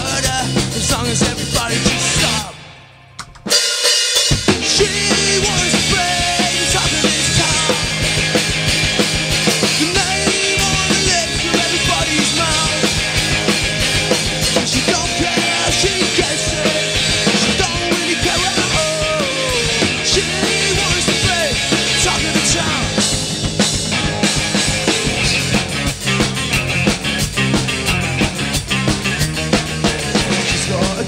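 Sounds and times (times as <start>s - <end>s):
drum kit: 0.0s - 31.0s
electric guitars: 0.0s - 31.0s.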